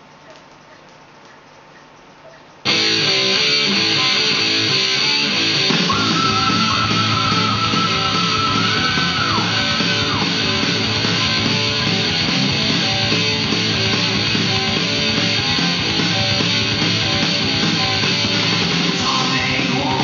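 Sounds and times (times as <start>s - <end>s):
vinyl groove ticking: 0.0s - 20.0s
long held lead guitar note: 2.7s - 20.0s
rock music with electric guitar: 2.7s - 20.0s.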